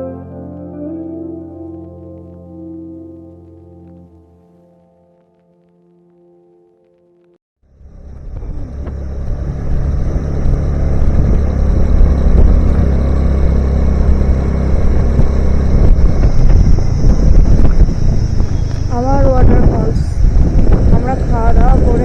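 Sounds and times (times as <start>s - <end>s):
car engine and road noise: 1.1s - 5.6s, 7.6s - 22.0s.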